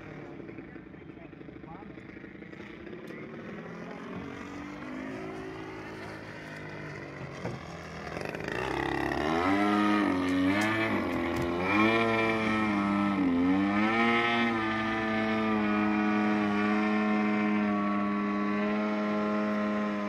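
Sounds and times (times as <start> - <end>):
model plane motor and propeller: 0.0 - 20.0.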